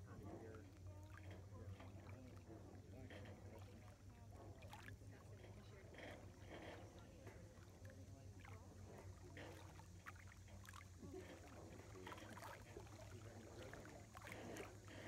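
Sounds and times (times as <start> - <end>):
faint distant voices: 0.0 - 15.0
waves lapping at shore: 0.0 - 15.0.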